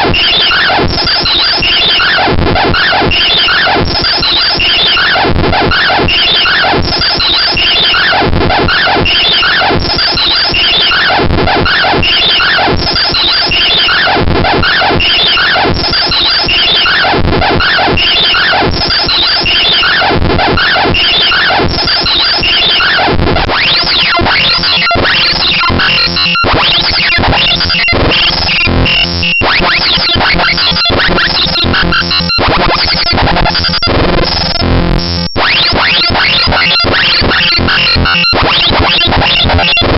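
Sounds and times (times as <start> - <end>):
glitchy synthesized bytebeat tones: 0.0 - 39.9.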